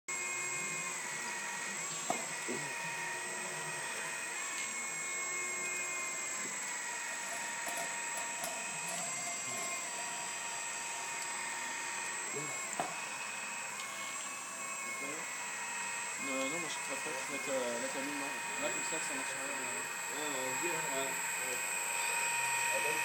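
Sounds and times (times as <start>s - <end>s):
hydraulic pump whining: 0.1s - 23.0s.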